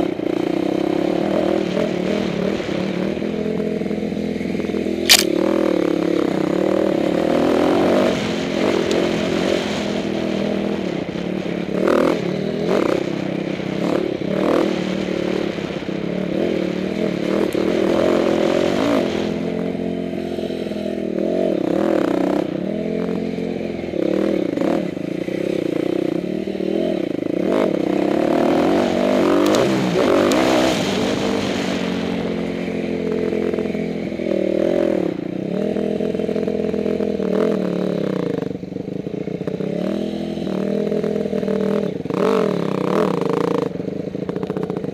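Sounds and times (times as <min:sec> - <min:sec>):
dirt bike engine revving: 0:00.2 - 0:38.6, 0:39.4 - 0:44.9.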